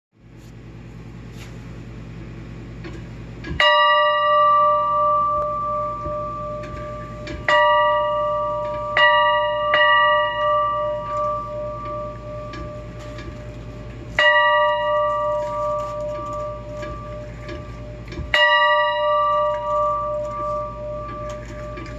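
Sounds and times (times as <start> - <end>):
toy train bell ringing: 3.6 - 21.9.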